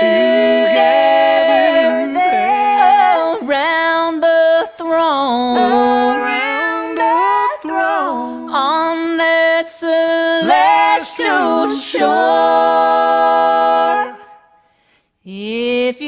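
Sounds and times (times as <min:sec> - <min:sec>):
gospel singing in harmony: 0:00.0 - 0:14.6.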